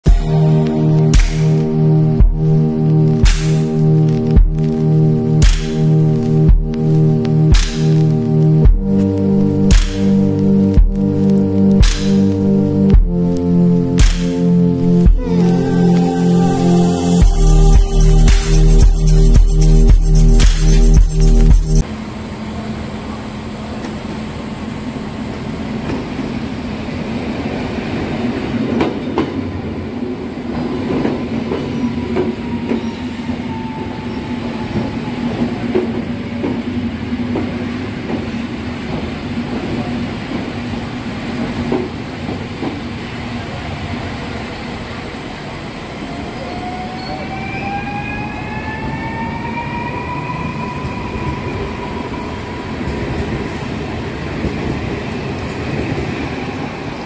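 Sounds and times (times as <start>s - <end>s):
train rumbling hum: 0.0s - 57.0s.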